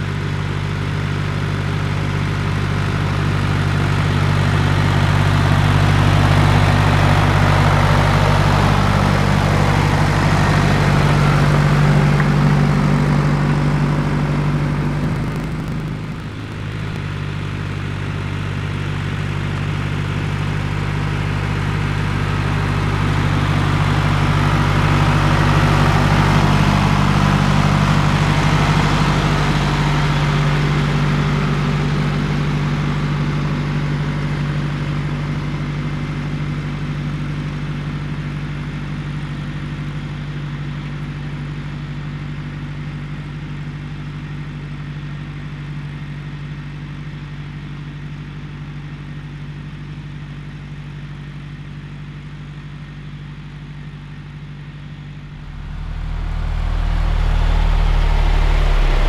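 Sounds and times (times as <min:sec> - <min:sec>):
tractor diesel engine drone: 0:00.0 - 0:59.0.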